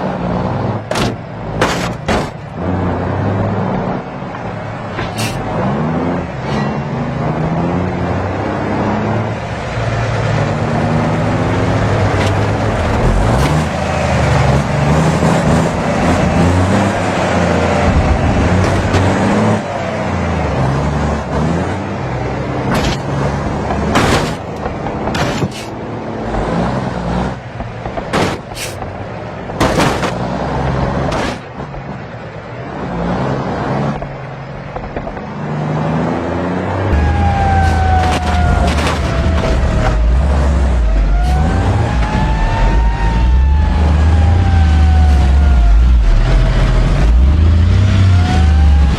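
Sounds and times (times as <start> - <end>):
heavy truck engine under load: 0.0 - 48.9
tyre and road noise: 0.0 - 48.9.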